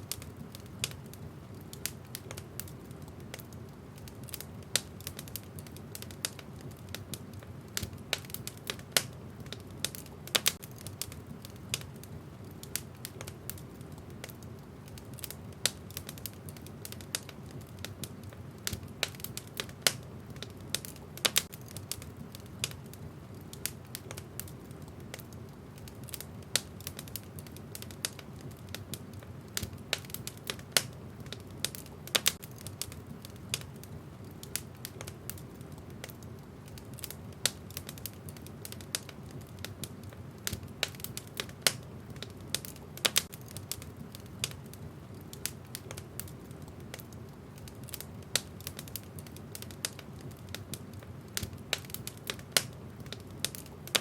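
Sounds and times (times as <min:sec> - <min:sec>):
burning logs popping and snapping: 0:00.0 - 0:54.0
low rumble of flames: 0:00.0 - 0:54.0.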